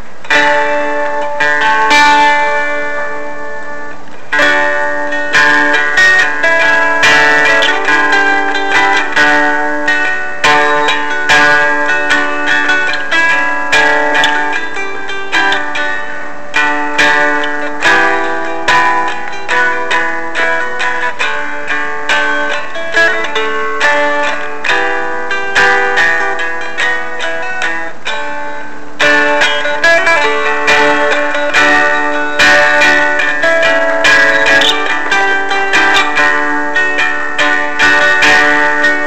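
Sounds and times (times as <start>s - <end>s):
dulcimer strummed: 0.0s - 39.0s.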